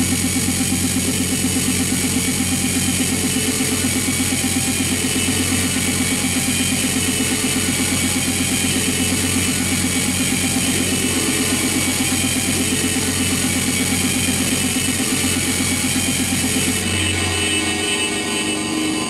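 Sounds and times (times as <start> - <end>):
fast even throb: 0.0 - 19.0
low droning hum: 0.0 - 19.0
faint wavering tones: 1.8 - 19.0.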